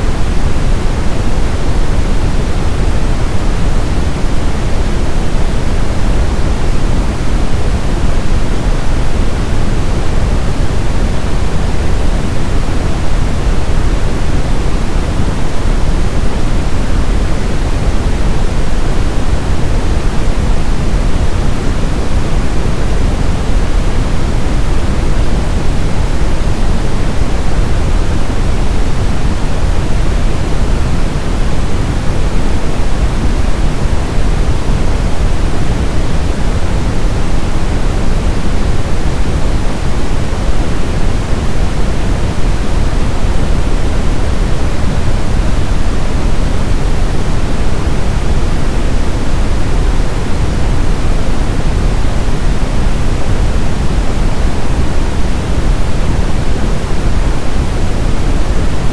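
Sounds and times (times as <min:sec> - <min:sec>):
brown noise rumble: 0:00.0 - 0:58.9.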